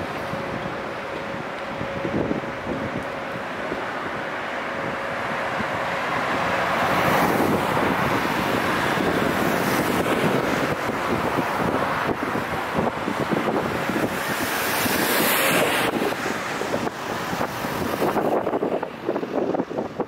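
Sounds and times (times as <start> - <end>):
city road traffic rushing: 0.0 - 20.0.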